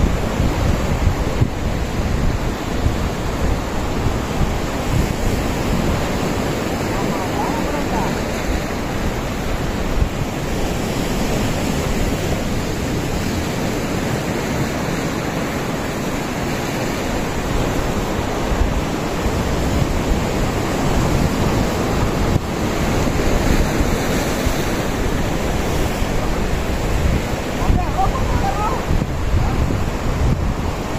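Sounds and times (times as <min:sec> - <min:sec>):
surf breaking on rocks: 0:00.0 - 0:30.9
wind buffeting microphone: 0:00.0 - 0:30.9.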